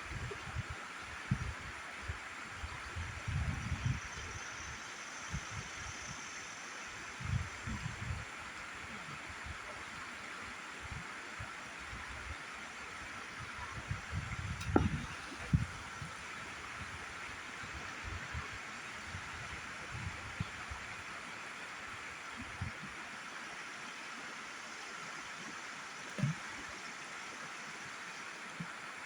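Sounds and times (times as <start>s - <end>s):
river water running over rocks: 0.0s - 29.0s.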